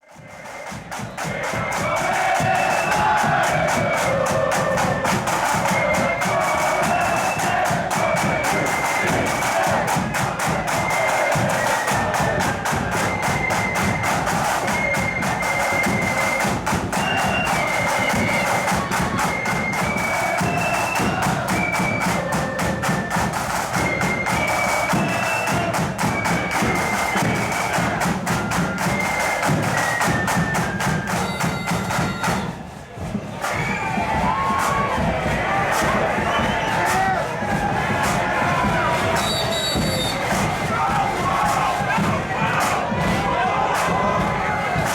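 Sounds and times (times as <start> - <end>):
flutes playing melody: 0.0 - 44.9
rapid snare drum strokes: 0.0 - 44.9
bass drum beat: 0.2 - 44.9.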